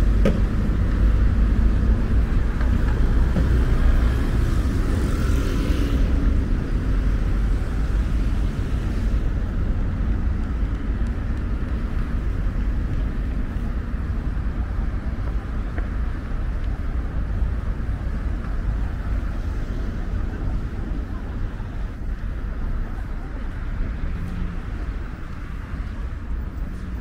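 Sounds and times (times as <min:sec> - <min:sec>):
street traffic rumble: 0:00.0 - 0:27.0.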